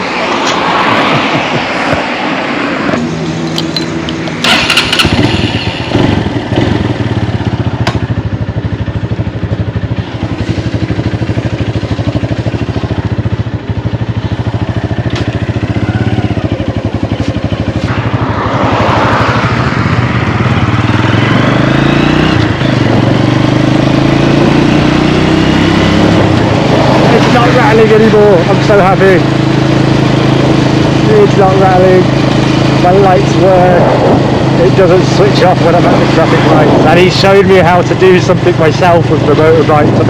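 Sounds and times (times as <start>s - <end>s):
small motorbike engine running: 4.4s - 40.0s.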